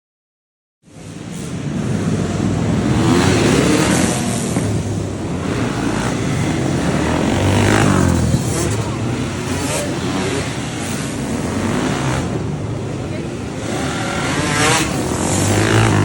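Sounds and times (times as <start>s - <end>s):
motorcycle engine revving: 0.9s - 16.0s
racing motorcycle engines: 0.9s - 16.0s.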